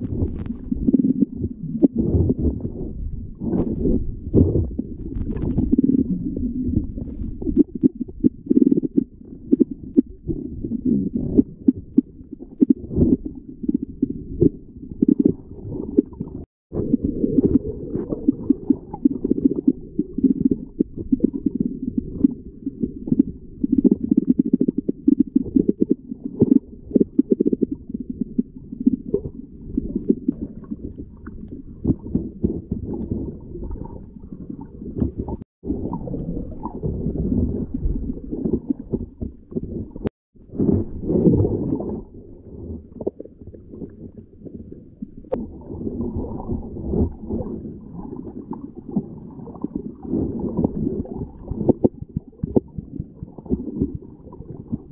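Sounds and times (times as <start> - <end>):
muffled underwater water rumble: 0.0 - 54.9.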